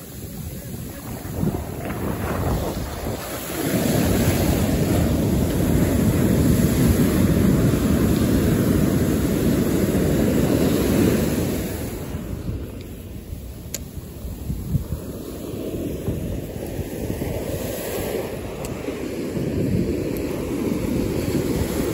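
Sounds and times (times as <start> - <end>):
surf breaking on beach: 0.0 - 21.9
wind buffeting microphone: 0.0 - 21.9.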